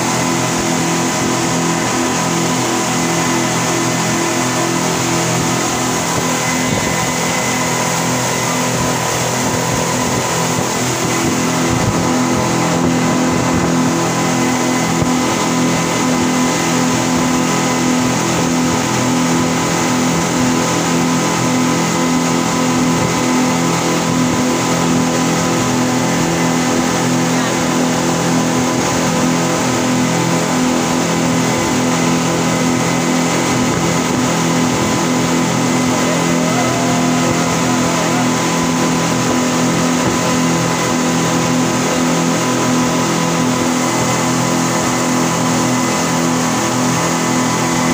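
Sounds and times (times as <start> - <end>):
speedboat engine drone: 0.0 - 47.9
water rushing along hull: 0.0 - 47.9.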